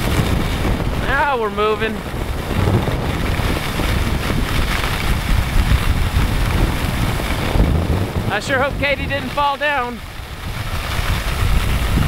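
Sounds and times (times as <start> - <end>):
wind buffeting microphone: 0.0 - 12.0
skis hissing over snow: 2.0 - 12.0.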